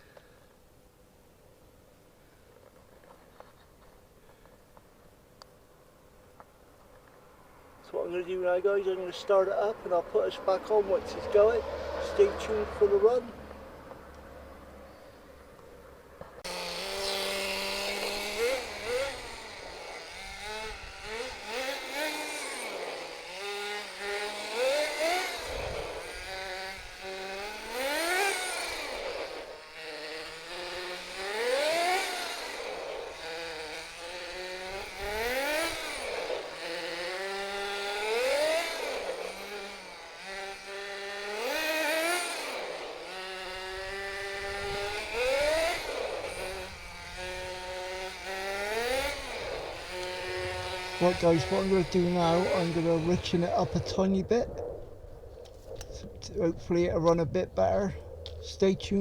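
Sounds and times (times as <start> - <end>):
small nitro engine revving: 7.9 - 15.6, 16.2 - 59.0.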